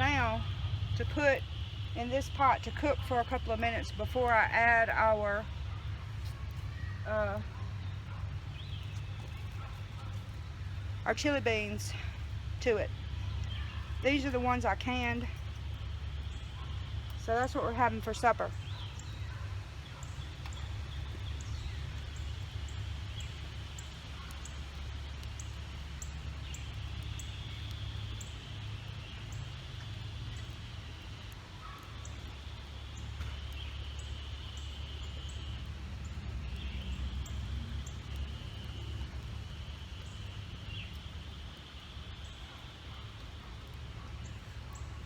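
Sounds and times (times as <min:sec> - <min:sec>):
birds trilling: 0:00.0 - 0:45.0.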